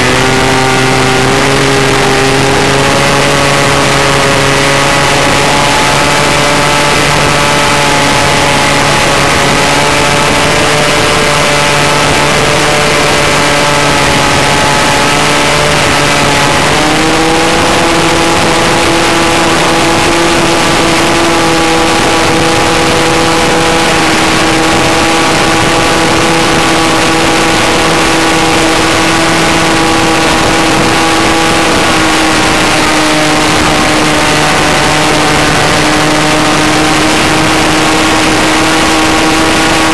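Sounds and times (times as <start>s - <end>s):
model airplane engine running: 0.0s - 39.9s
wind rushing over microphone: 0.0s - 39.9s.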